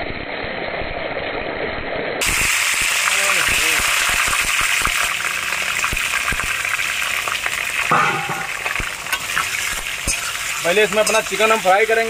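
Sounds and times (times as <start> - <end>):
chicken frying in hot oil: 2.2 - 12.0
oil popping and crackling: 2.2 - 12.0.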